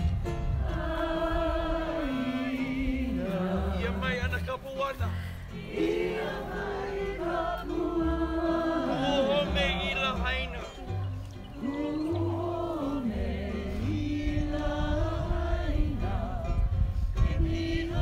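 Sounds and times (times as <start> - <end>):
voices chanting long notes: 0.0 - 4.0, 5.6 - 18.0.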